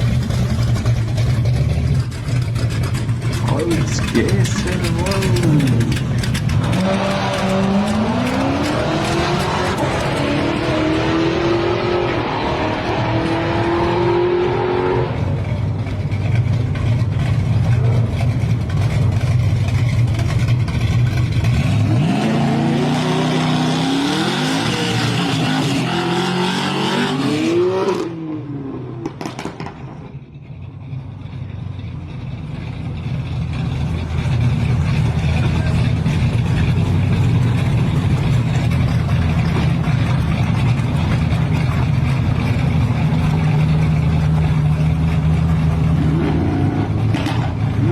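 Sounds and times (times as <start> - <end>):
car engine revving: 0.0 - 29.9, 32.1 - 47.9.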